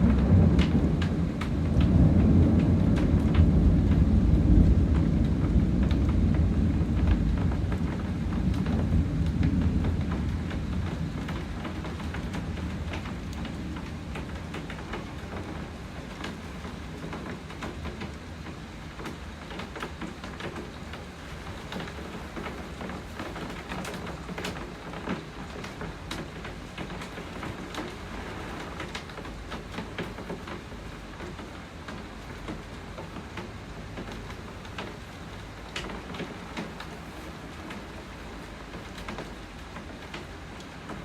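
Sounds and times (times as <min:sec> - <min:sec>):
heavy rain hissing: 0:00.0 - 0:41.0.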